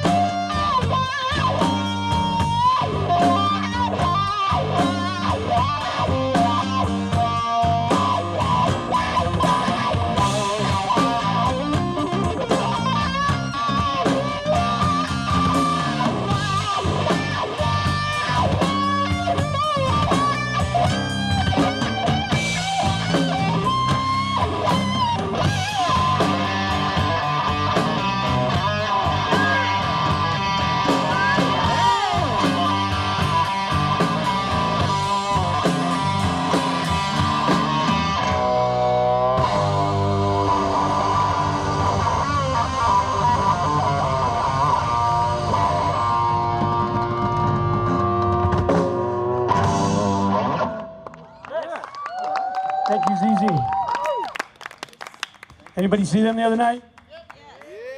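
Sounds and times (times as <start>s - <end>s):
bass guitar: 0.0s - 51.7s
electric guitar solo: 0.0s - 54.4s
drums: 0.0s - 56.8s.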